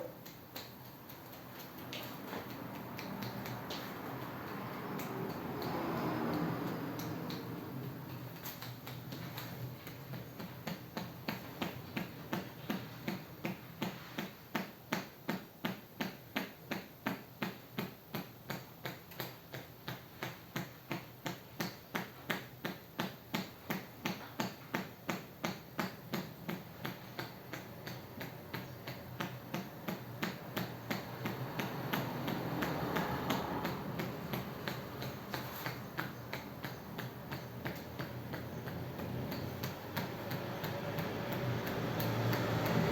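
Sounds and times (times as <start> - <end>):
hands tapping on head: 0.0 - 42.9.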